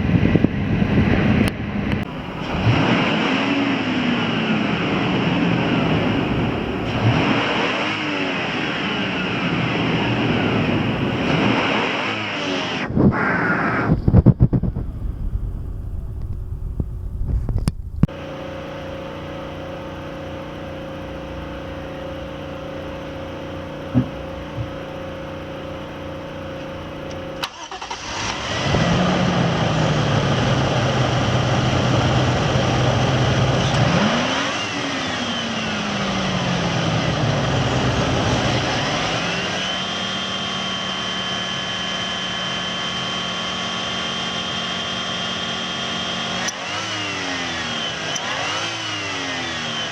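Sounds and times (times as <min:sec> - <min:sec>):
car engine starting and revving: 0:00.0 - 0:49.9
thin high engine whine: 0:00.0 - 0:49.9.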